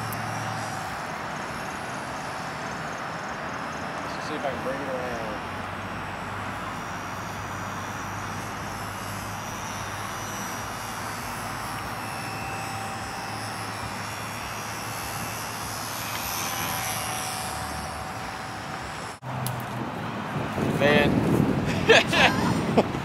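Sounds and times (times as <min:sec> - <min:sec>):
model plane motor whine: 0:00.0 - 0:22.8.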